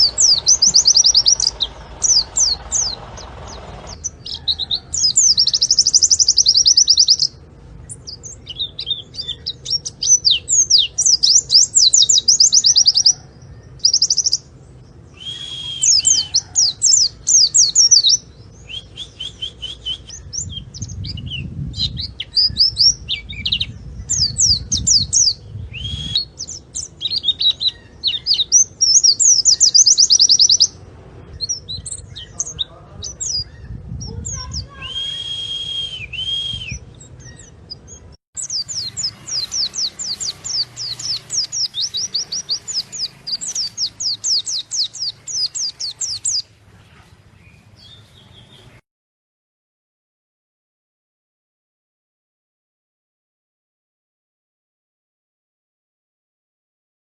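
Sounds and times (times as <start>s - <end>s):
bird twittering song: 0.0s - 48.8s.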